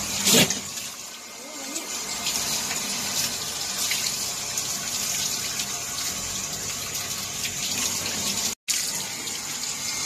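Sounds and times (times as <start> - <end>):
water running from a hose: 0.0 - 10.0.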